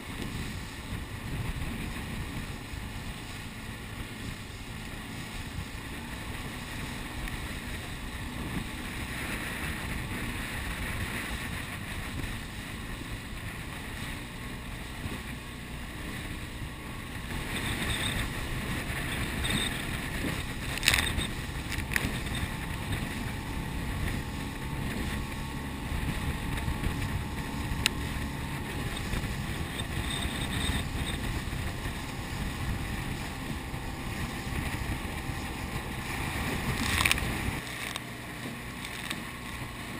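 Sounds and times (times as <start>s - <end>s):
water rushing past boat: 0.0s - 39.9s
wind buffeting microphone: 0.0s - 39.9s.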